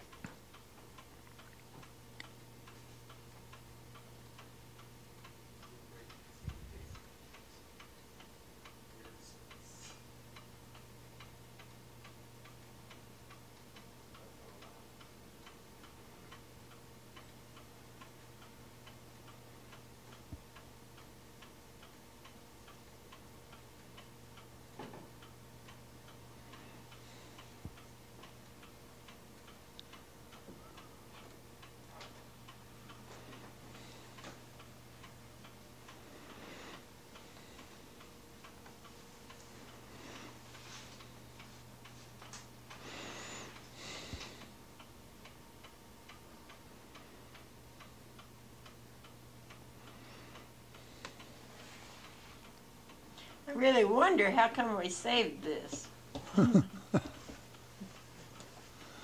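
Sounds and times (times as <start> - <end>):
faint steady ticking: 0.0 - 59.0.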